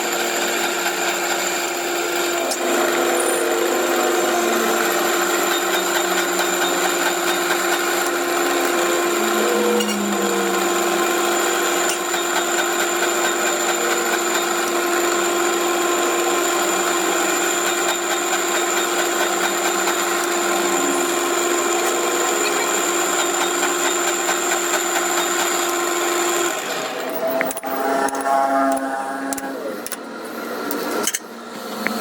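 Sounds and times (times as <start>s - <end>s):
electric power tool running: 0.0s - 32.0s.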